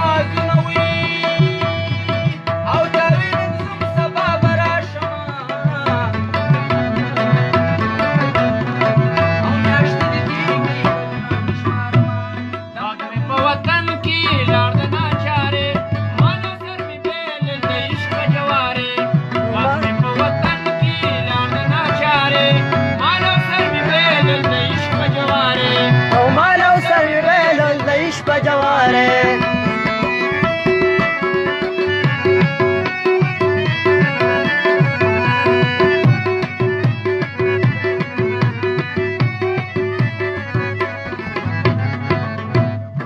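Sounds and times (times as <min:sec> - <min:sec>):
hand drum: 0:00.0 - 0:43.0
harmonium drone: 0:00.0 - 0:43.0.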